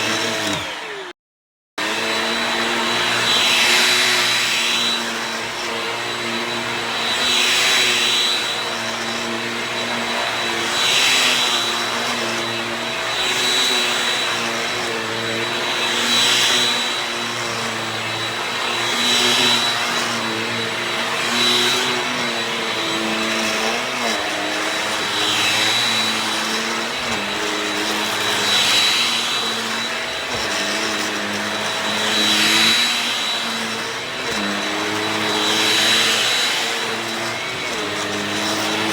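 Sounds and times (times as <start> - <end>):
stick vacuum running: 0.0 - 1.2, 1.8 - 38.9.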